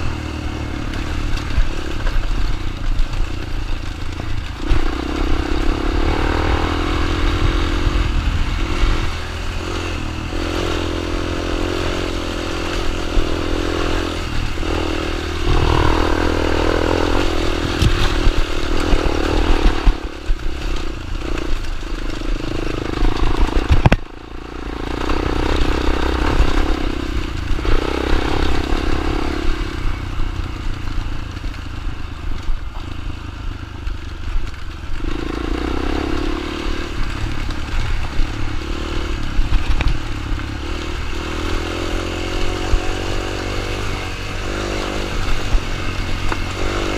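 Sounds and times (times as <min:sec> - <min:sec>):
dirt bike engine revving: 0:00.0 - 0:31.0, 0:34.9 - 0:46.9.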